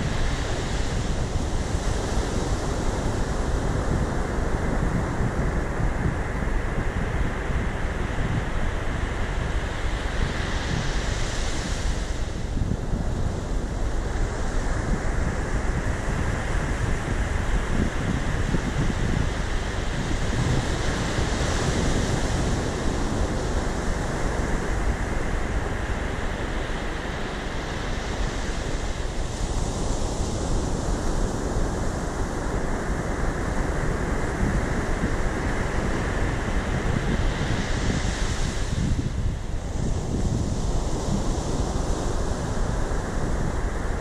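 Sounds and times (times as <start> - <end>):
ocean surf breaking on sand: 0.0 - 44.0
wind rumbling on microphone: 0.0 - 44.0.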